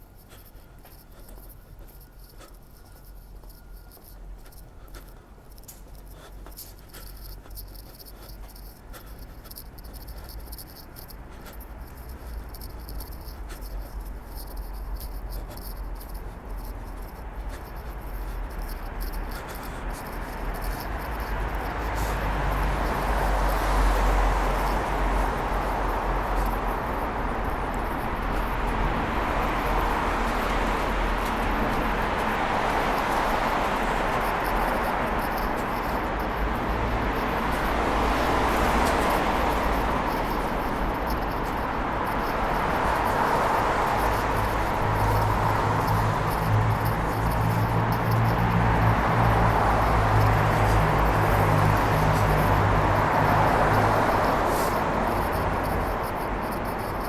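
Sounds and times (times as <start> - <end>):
traffic rumble in a tunnel: 0.0 - 57.0
vehicle approaching: 5.6 - 57.0.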